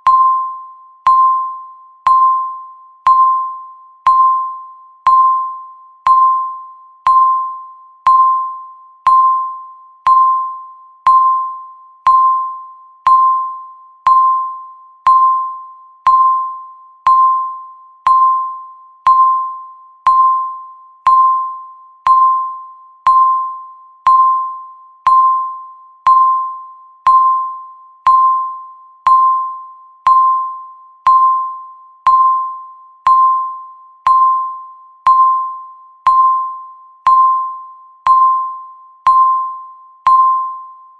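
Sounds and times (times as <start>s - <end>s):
timer beeping: 0.0s - 40.9s.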